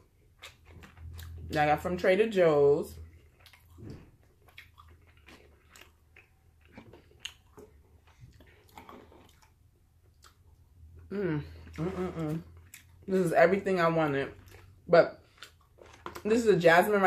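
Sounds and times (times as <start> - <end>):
person chewing: 0.0 - 1.6, 3.0 - 13.1, 14.3 - 16.3.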